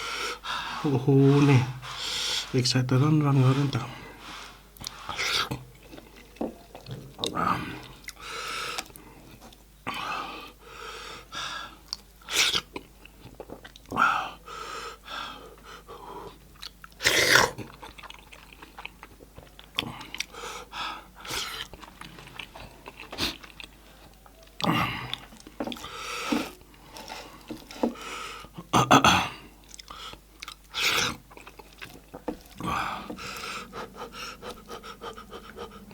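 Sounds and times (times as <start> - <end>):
person chewing food: 3.5 - 9.7, 11.7 - 14.0, 15.4 - 35.9.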